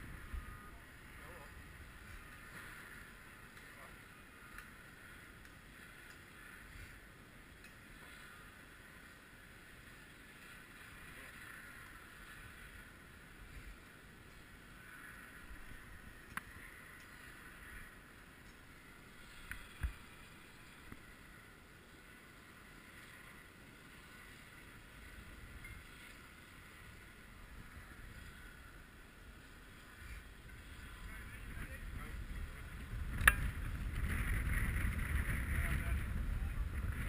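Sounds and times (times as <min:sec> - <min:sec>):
faint outdoor hiss: 0:00.0 - 0:37.0
wind rumbling on microphone: 0:00.0 - 0:37.0.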